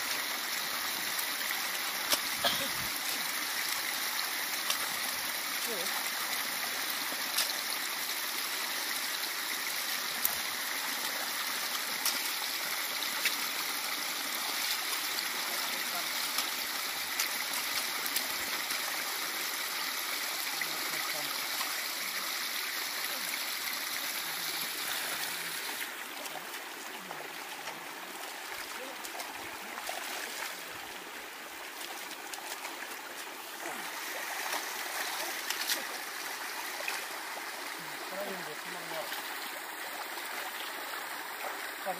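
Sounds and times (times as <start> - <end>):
water trickling and rushing: 0.0 - 41.9
small water splashes: 0.3 - 41.9.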